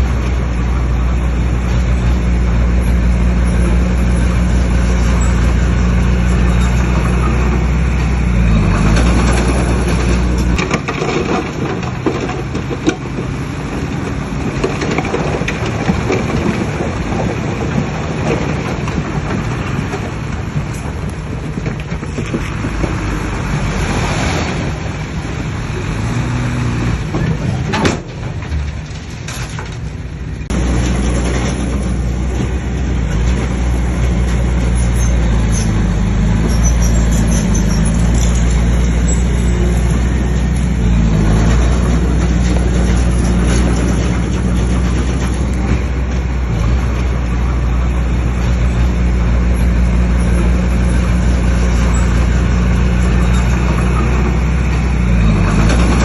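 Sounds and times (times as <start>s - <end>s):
diesel machinery engine under load: 0.0s - 56.0s.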